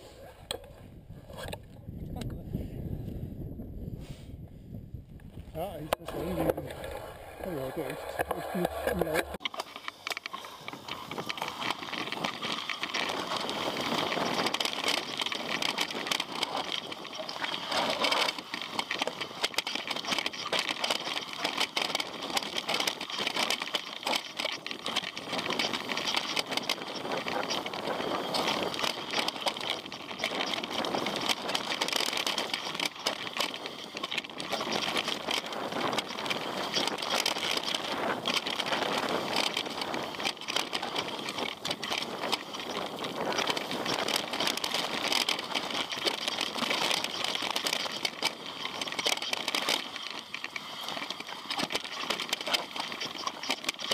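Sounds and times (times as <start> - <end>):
bike tyres on gravel and rock: 5.0 - 53.9
bike clattering over bumps: 7.8 - 53.9.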